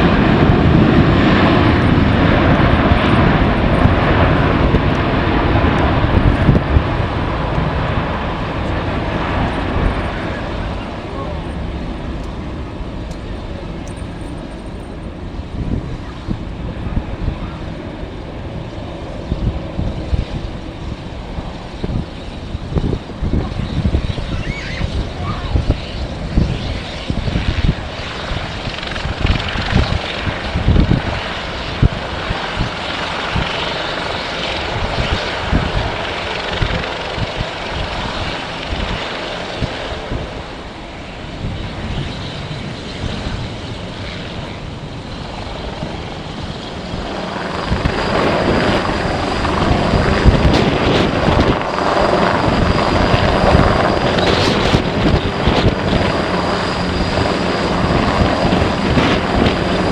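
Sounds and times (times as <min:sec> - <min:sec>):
jet engines whining: 0:00.0 - 0:59.9
wind buffeting microphone: 0:00.0 - 0:59.9.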